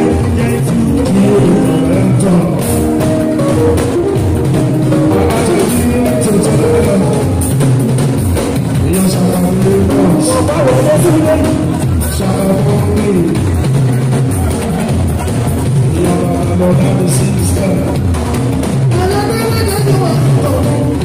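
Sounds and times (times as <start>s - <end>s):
drums and percussion beat: 0.0s - 21.0s
held instrumental notes: 0.0s - 21.0s.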